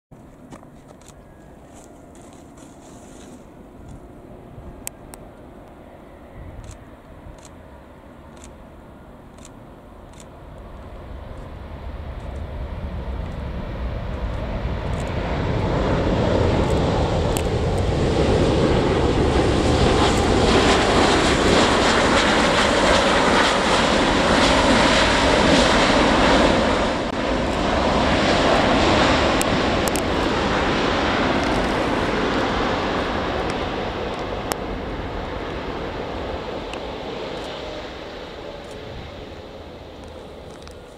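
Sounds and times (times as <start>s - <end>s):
jet engines roaring: 0.4s - 40.9s.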